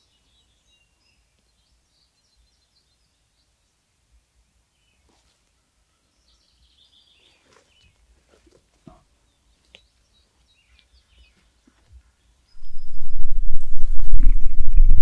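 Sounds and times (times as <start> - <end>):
songbirds chirping faintly: 0.0 - 14.8.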